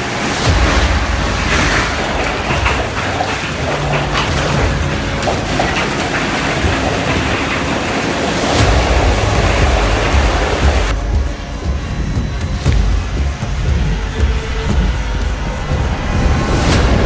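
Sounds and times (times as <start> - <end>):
deep rumble: 0.0 - 17.0
storm rushing: 0.0 - 17.0
wind buffeting microphone: 0.0 - 17.0.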